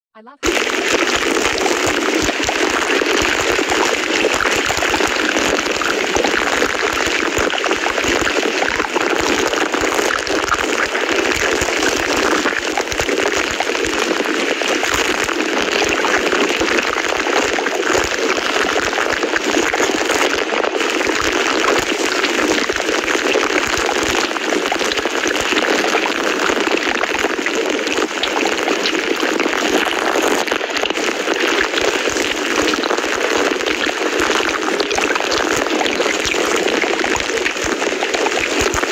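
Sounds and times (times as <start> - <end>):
steady rain: 0.4 - 38.9.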